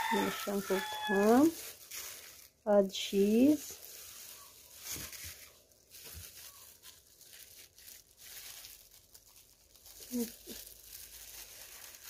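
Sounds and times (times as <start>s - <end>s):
plastic glove crinkling: 0.0s - 12.0s.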